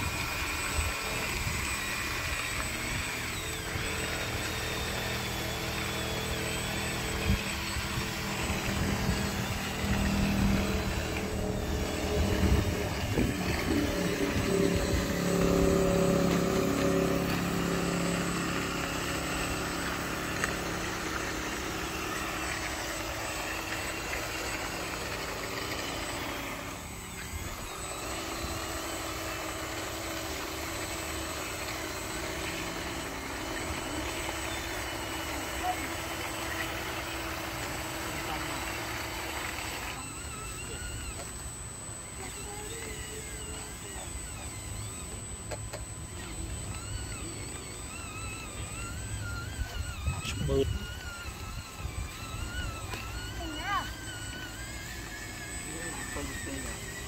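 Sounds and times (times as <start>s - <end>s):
toy electric motors whining: 0.0s - 57.0s.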